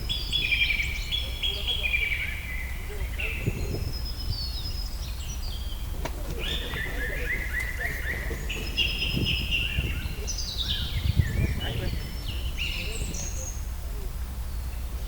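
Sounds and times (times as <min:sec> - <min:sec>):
birds chirping and trilling: 0:00.0 - 0:13.7
steady low rumble: 0:00.0 - 0:15.0.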